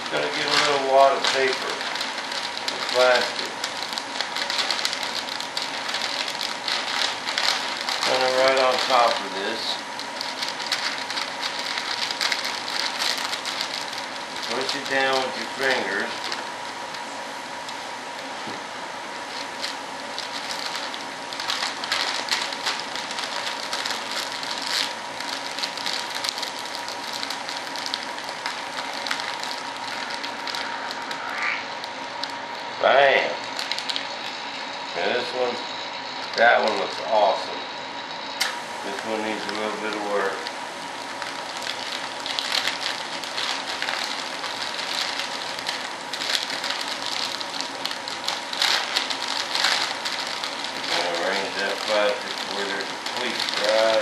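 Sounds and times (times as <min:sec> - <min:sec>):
plastic film crinkling: 0:00.0 - 0:32.7, 0:33.3 - 0:35.4, 0:36.2 - 0:37.4, 0:38.4 - 0:54.0
vacuum pump humming: 0:00.0 - 0:54.0.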